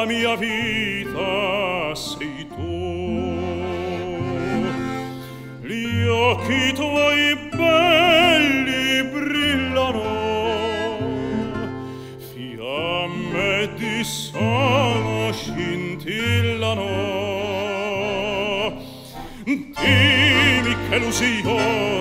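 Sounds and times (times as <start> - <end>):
man singing operatic love song: 0.0 - 11.5, 12.1 - 22.0
accordion: 0.0 - 22.0
classical guitars: 0.0 - 22.0.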